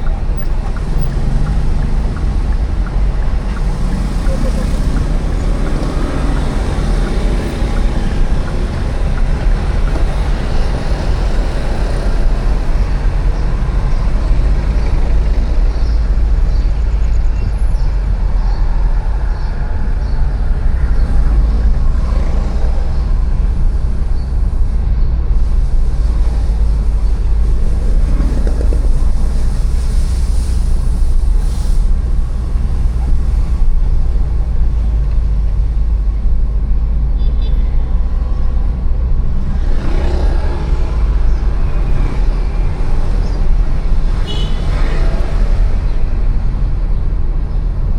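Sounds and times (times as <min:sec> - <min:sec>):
motor vehicles passing: 0:00.0 - 0:47.9
steady low rumble: 0:00.0 - 0:47.9.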